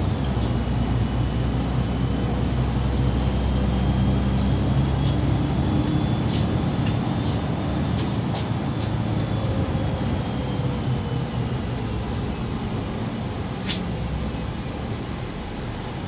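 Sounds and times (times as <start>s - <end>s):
bus diesel engine hum: 0.0s - 16.0s
road noise: 0.0s - 16.0s.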